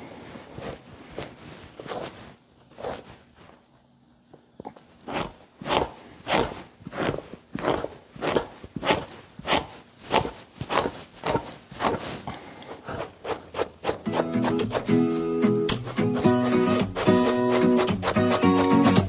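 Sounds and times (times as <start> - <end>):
knife scraping hide: 0.3 - 3.6, 5.0 - 19.0.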